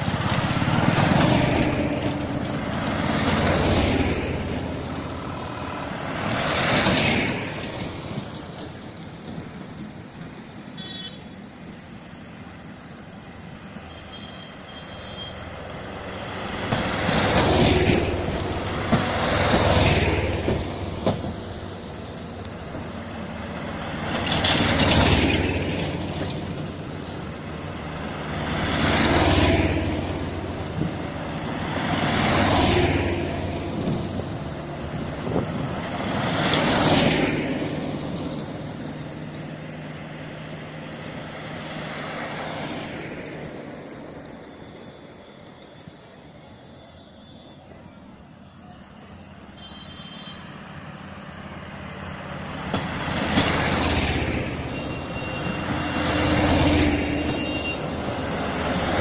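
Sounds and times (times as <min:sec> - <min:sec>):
mini trucks driving past: 0:00.0 - 0:59.0.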